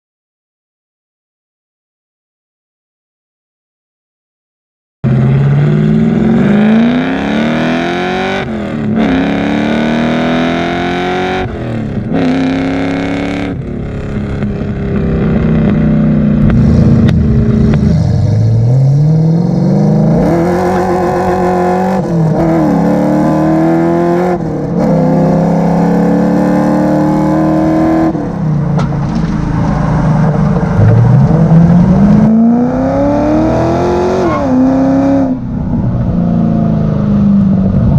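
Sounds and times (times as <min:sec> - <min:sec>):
car engine accelerating hard: 0:05.1 - 0:37.9.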